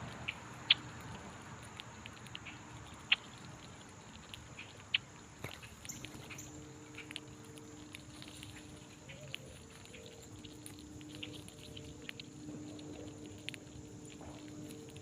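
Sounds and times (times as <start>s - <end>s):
small clicks and light patter: 0.0s - 15.0s
steady low hum: 0.0s - 15.0s.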